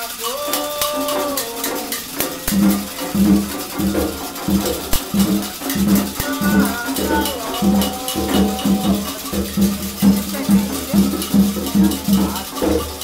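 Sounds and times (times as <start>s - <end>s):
hand drums beating: 0.0s - 13.0s
person singing: 0.0s - 13.0s
sharp percussion clicks: 0.0s - 13.0s.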